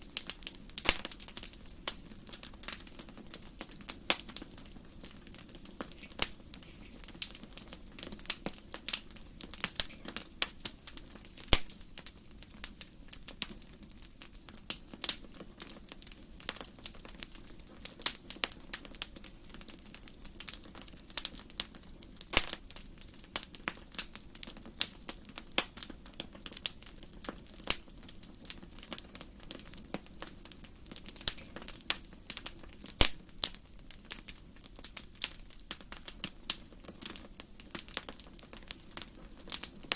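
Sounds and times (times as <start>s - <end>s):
soft low hiss: 0.0s - 39.9s
wood fire crackling and popping: 0.0s - 39.9s.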